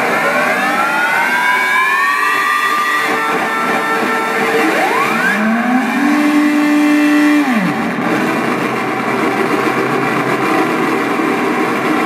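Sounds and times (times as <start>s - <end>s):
electronic tone dropping in pitch: 0.0s - 10.5s
rough synthesizer drone: 0.0s - 12.0s.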